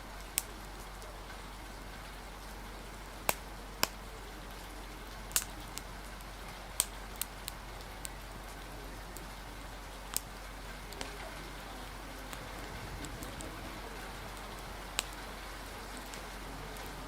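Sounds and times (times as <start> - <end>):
fire crackling and popping: 0.0 - 17.0
rain hissing: 0.0 - 17.0.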